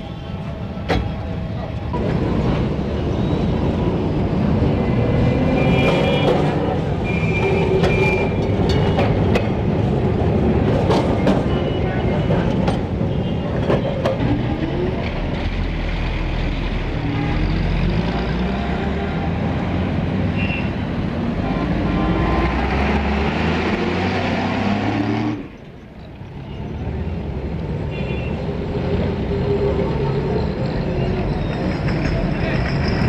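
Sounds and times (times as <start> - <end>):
vehicle engines passing: 1.1 - 33.0.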